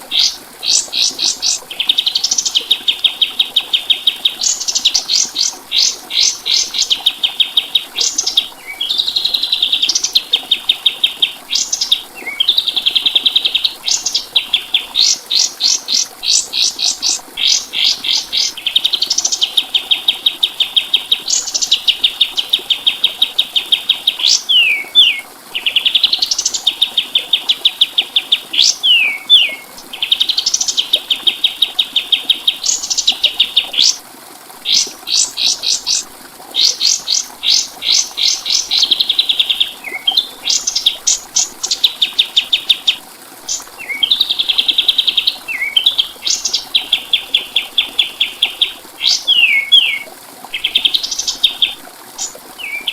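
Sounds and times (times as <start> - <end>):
songbird singing fast trills: 0.1 - 34.0, 36.6 - 52.9.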